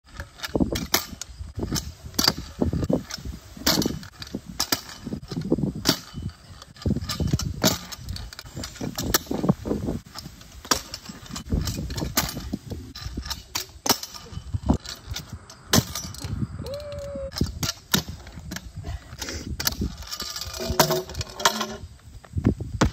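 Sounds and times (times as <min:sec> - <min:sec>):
scooter wheels rolling on asphalt: 0:00.0 - 0:22.9.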